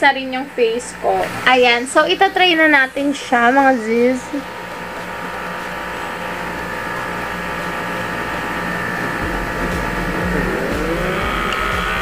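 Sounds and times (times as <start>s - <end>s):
small suction pump humming: 0.0s - 12.0s.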